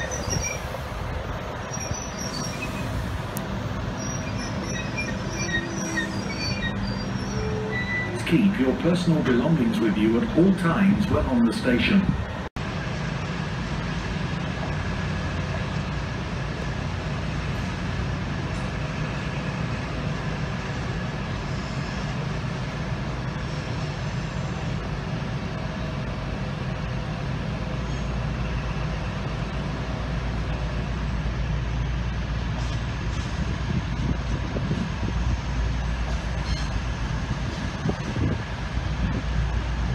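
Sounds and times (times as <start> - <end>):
diesel train rumbling past: 0.0 - 39.9.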